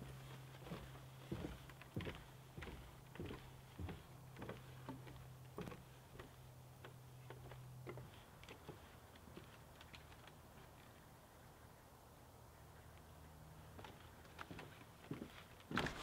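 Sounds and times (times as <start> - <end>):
footsteps on wooden boardwalk: 0.0 - 11.7, 12.5 - 16.0.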